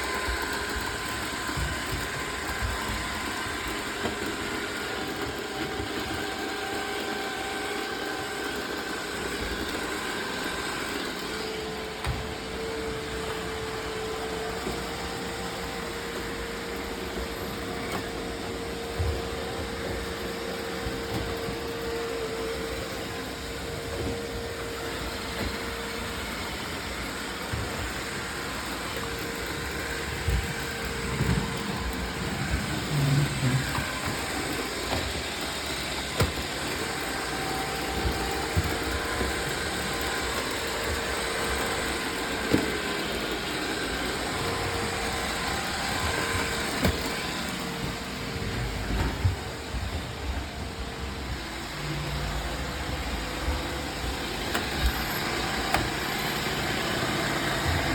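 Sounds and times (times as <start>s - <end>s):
robot vacuum cleaner running: 0.0s - 57.9s.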